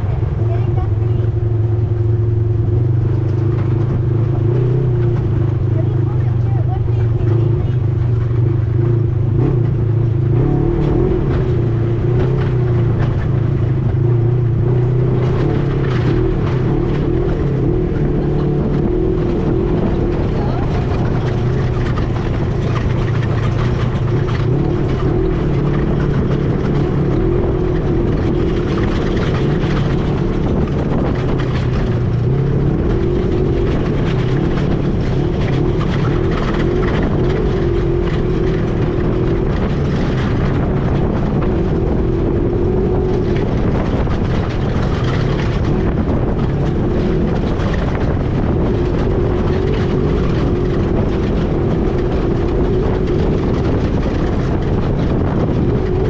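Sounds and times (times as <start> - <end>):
atv engine running: 0.0 - 56.0
rumble of riding: 0.0 - 56.0.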